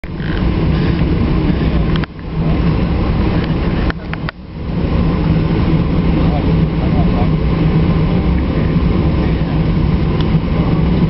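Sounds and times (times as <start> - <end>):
airliner engine rumble in cabin: 0.0 - 11.0.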